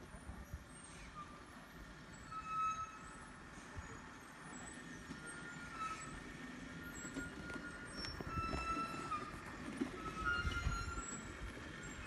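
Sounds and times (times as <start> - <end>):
faint diesel engine running: 0.0 - 12.0.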